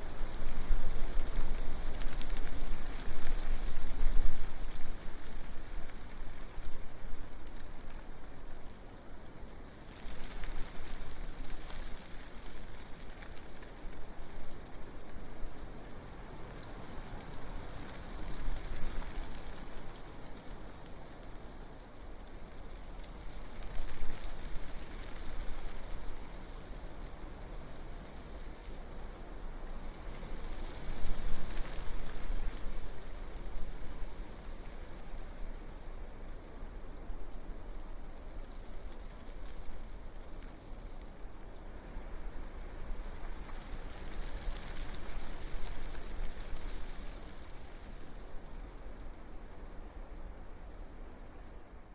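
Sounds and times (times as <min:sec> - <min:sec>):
leaves rustling: 0:00.0 - 0:51.9.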